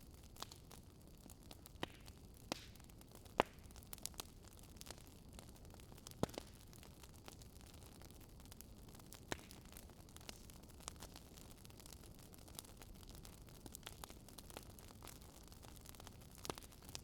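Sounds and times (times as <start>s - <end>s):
faint wood fire crackling: 0.0s - 17.0s.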